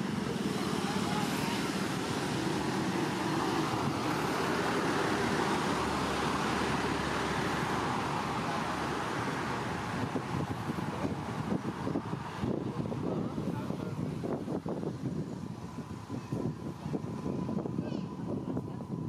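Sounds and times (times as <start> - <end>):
steady rushing hiss: 0.0 - 18.7.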